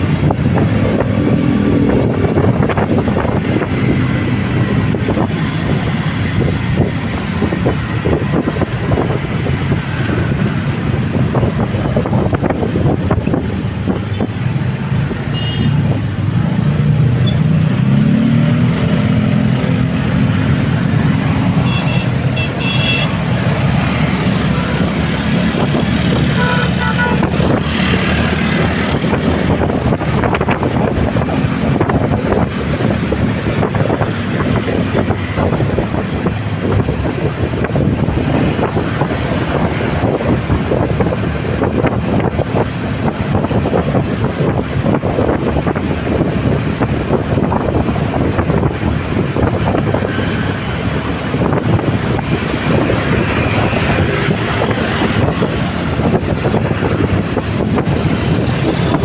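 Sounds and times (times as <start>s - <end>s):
road traffic: 0.0s - 59.0s
wind buffeting microphone: 0.0s - 59.0s.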